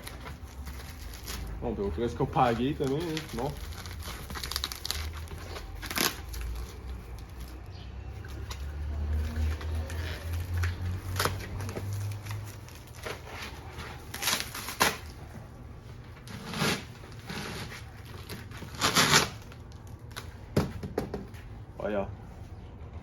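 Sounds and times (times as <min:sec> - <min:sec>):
packaging rustling and crinkling: 0:00.0 - 0:15.6, 0:16.2 - 0:20.4.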